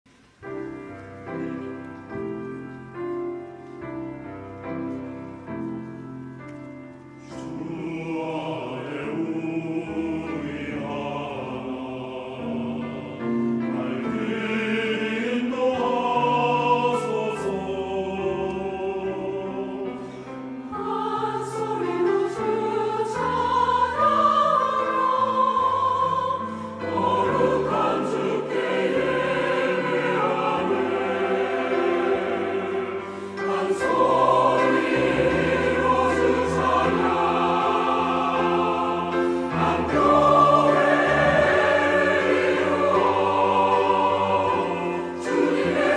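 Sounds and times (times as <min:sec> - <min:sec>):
piano chords: 0:00.1 - 0:45.9
choir singing: 0:07.2 - 0:45.9.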